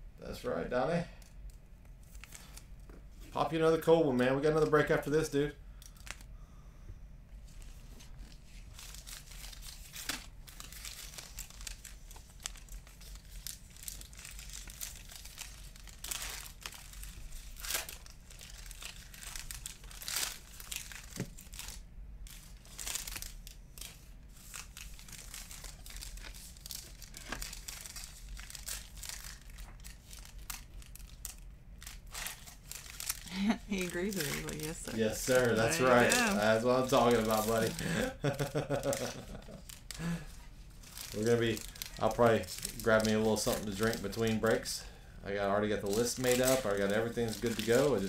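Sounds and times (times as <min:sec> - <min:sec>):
card wrappers crinkling and tearing: 0:01.2 - 0:02.7, 0:03.8 - 0:06.3, 0:07.6 - 0:48.0.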